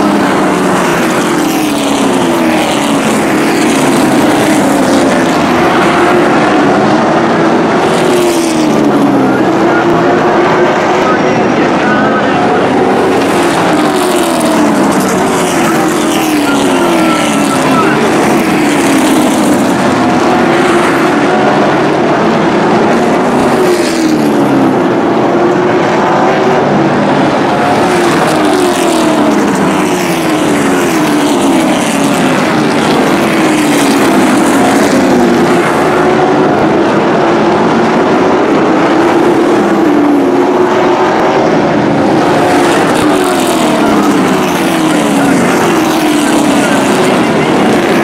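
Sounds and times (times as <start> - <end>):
race truck engines roaring: 0.0 - 48.0.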